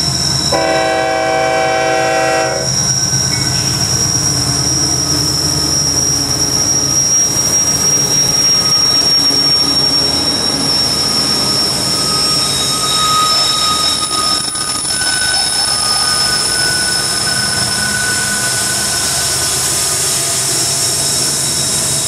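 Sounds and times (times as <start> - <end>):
diesel locomotive engine rumble: 0.0 - 22.0
high-pitched whine: 0.0 - 22.0
low squeal: 0.0 - 22.0.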